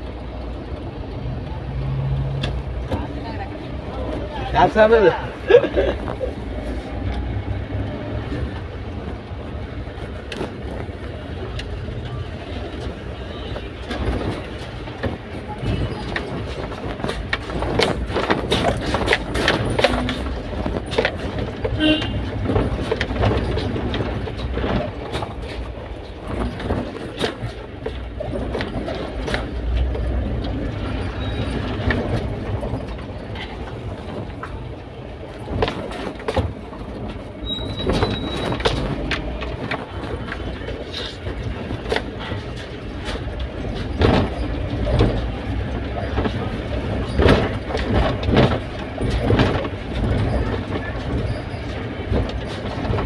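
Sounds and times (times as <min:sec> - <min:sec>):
engine and road rumble: 0:00.0 - 0:53.0
cab rattles and clunks: 0:02.4 - 0:53.0.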